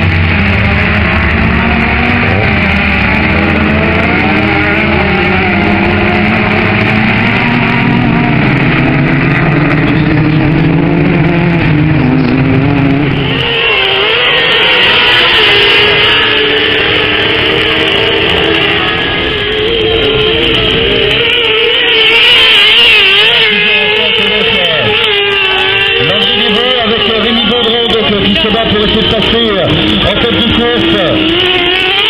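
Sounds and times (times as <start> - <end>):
higher engine note: 0.0 - 32.0
racing car engines revving: 0.0 - 32.0.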